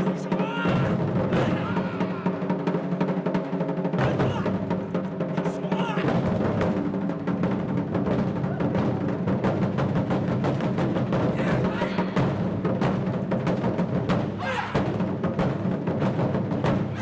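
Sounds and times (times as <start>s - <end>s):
taiko drums beating fast: 0.0s - 17.0s.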